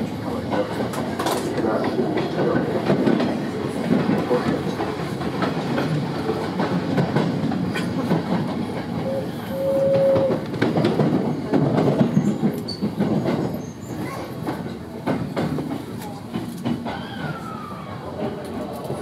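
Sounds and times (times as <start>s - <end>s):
train rumble: 0.0s - 19.0s
wheels clacking over rail joints: 0.3s - 19.0s.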